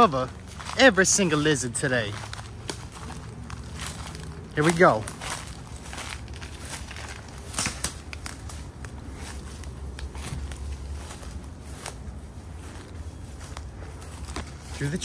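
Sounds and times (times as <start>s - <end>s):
footsteps through tall grass: 0.0s - 15.0s
low steady rumble: 0.0s - 15.0s
twigs snapping: 2.1s - 14.8s.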